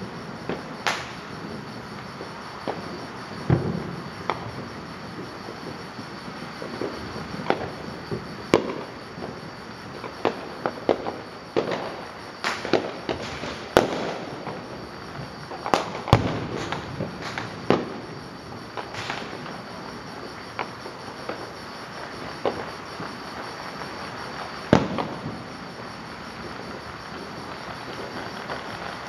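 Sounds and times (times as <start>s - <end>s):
fireworks bangs and cracks: 0.0s - 29.0s.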